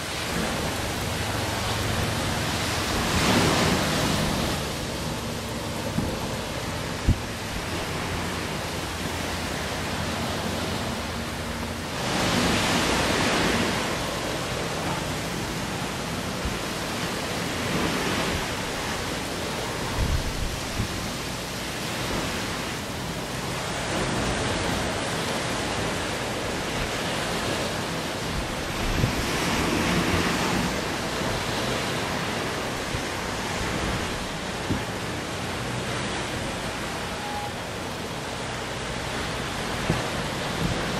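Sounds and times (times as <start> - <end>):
ocean surf: 0.0 - 40.9
wind: 0.0 - 40.9
wind buffeting microphone: 0.0 - 40.9.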